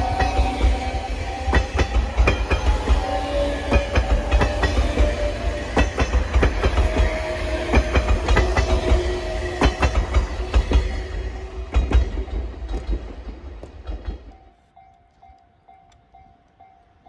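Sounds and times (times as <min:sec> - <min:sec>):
deep train rumble: 0:00.0 - 0:17.0
wheels clicking over rail joints: 0:00.0 - 0:17.0.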